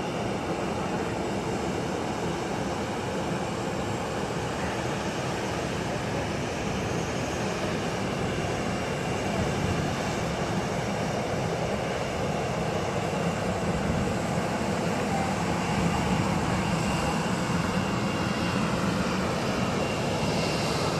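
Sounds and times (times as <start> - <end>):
airliner engines running: 0.0 - 20.9.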